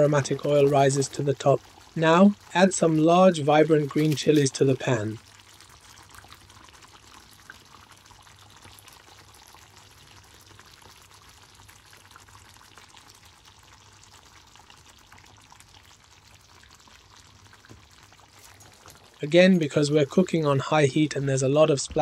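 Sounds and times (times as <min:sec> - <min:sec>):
curry sizzling in oil: 0:00.0 - 0:20.4.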